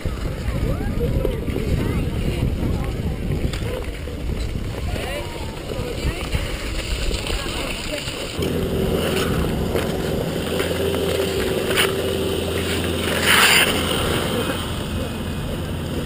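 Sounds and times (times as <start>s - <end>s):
skate blades gliding on ice: 0.0s - 16.0s
wind on microphone: 0.0s - 16.0s.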